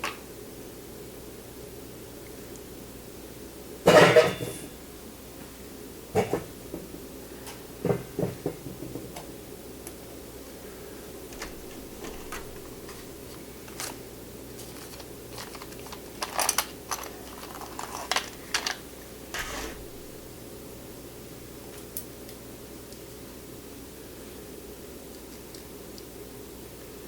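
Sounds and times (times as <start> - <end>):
steady low hum: 0.2 - 27.0.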